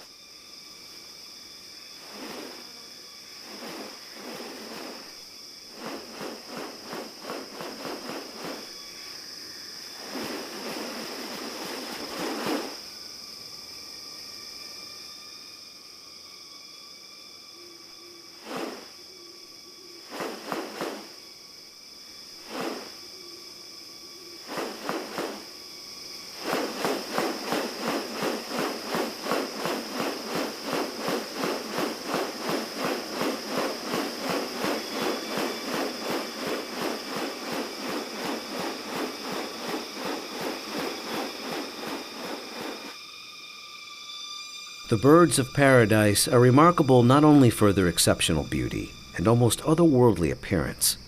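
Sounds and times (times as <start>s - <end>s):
high insect drone: 0.0s - 51.0s.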